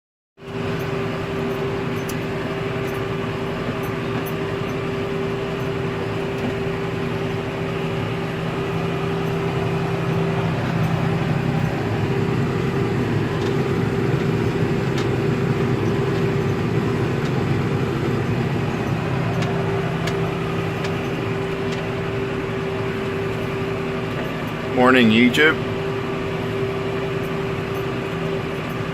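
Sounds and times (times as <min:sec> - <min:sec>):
constant whine: 0:00.4 - 0:28.9
tractor diesel engine running: 0:00.4 - 0:28.9.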